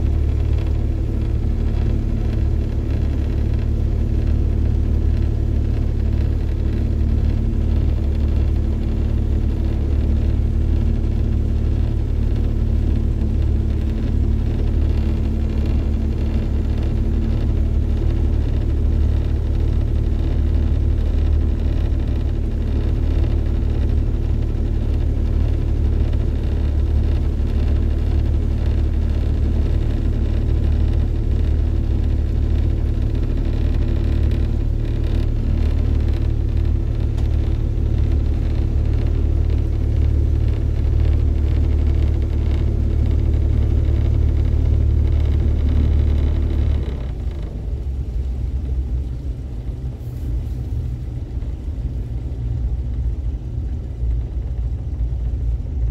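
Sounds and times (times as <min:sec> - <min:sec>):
outboard motor droning: 0:00.0 - 0:55.9.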